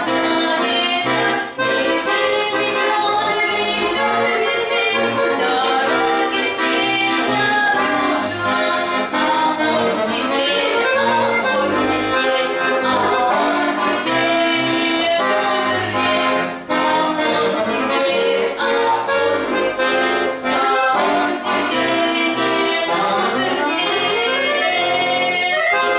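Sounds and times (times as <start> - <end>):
accordion playing chords: 0.0 - 25.9.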